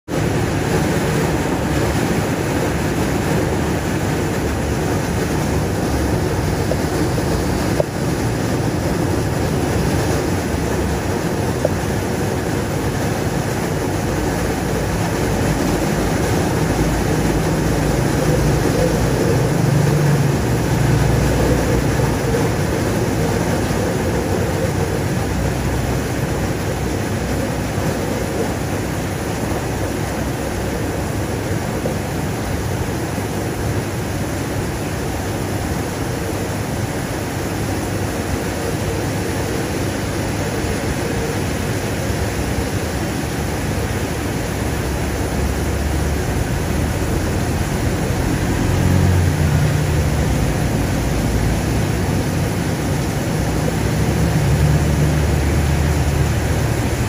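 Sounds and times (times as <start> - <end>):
heavy rain on wet pavement: 0.1 - 57.0
vehicle passing on wet road: 0.1 - 57.0.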